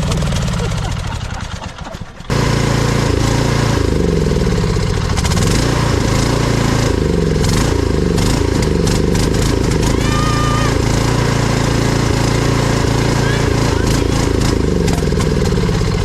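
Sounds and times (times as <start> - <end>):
riding mower engine running: 0.0 - 16.0.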